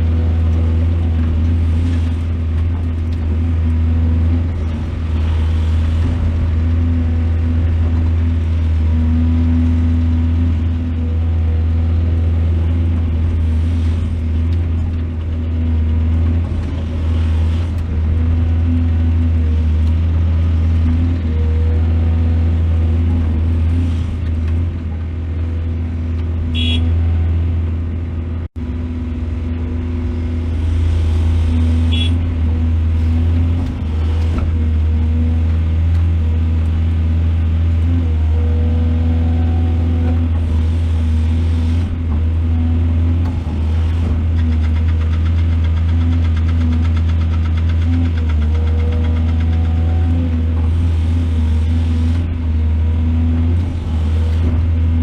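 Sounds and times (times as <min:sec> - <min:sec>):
diesel engine deep hum: 0:00.0 - 0:55.0.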